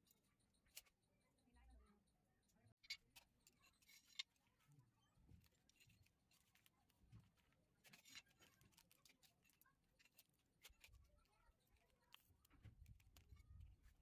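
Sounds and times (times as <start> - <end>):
faint clicks and scrapes: 0.0 - 1.4, 2.7 - 14.0.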